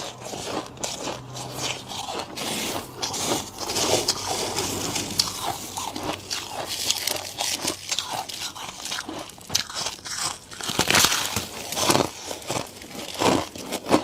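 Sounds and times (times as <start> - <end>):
frost being crunched and scraped: 0.0 - 14.0.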